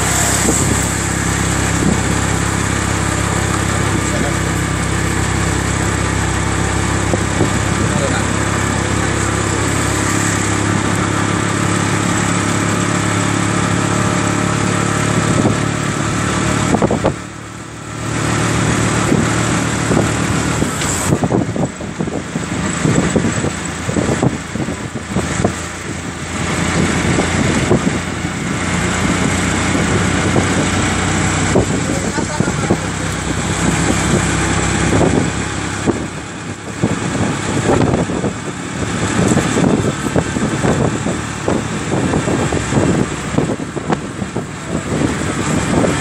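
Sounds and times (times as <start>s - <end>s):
road and wind noise: 0.0s - 46.0s
vehicle engine hum: 0.0s - 46.0s.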